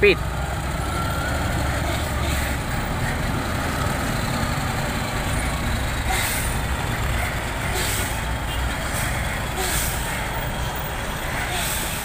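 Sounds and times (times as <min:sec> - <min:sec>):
truck diesel engine passing: 0:00.0 - 0:12.0.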